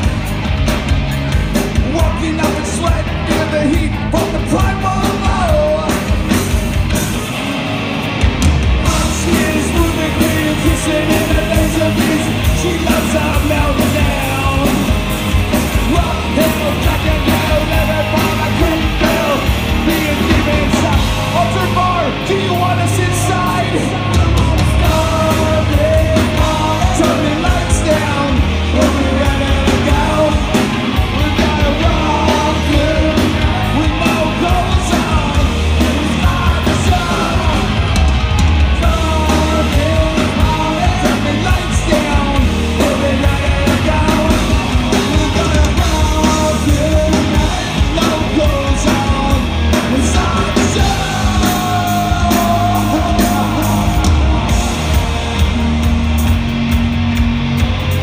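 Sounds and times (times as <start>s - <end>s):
rock band playing live: 0.0s - 58.0s
singer shouting and singing: 1.4s - 7.4s, 8.8s - 55.8s.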